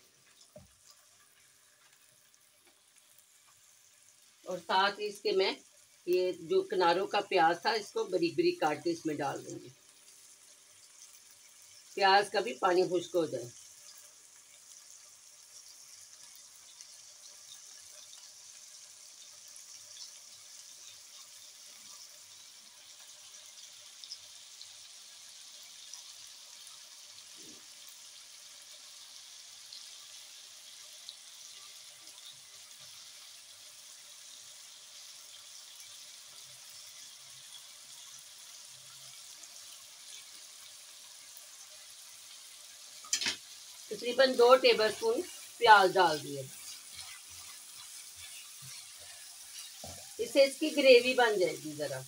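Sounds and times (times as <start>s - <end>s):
chicken sizzling in oil: 0.0s - 52.0s.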